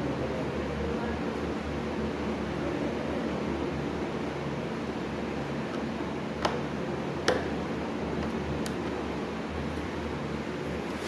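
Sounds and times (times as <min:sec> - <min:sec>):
low mechanical hum with hiss: 0:00.0 - 0:11.0.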